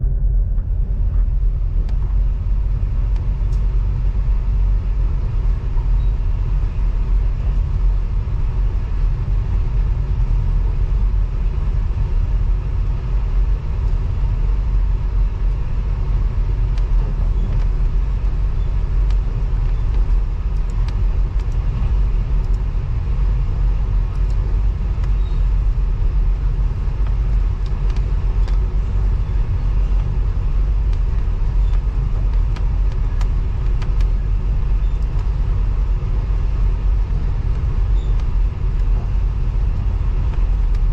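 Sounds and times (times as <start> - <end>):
train rumble inside carriage: 0.0 - 40.9.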